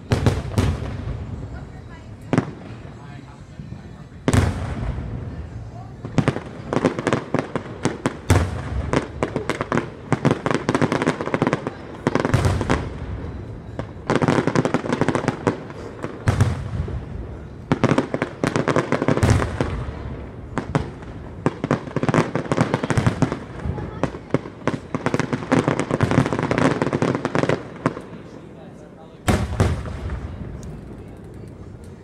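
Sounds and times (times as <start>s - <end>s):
deep firework booms: 0.0s - 2.7s, 4.2s - 28.0s, 29.3s - 30.6s
fireworks popping and crackling: 0.0s - 32.0s.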